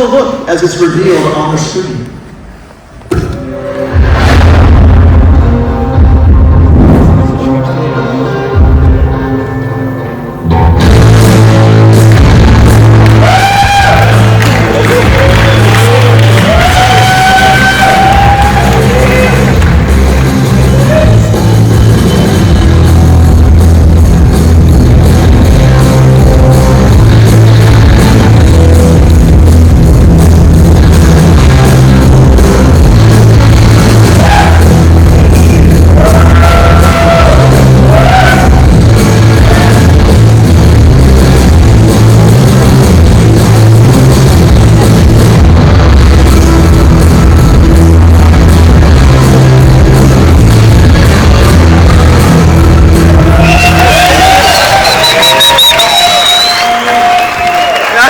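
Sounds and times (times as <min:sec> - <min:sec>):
loud rock music: 0:03.1 - 0:57.7.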